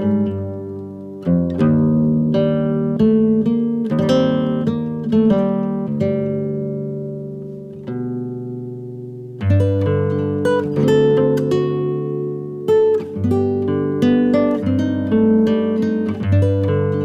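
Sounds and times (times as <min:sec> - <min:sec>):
acoustic guitar plucked: 0:00.0 - 0:17.0.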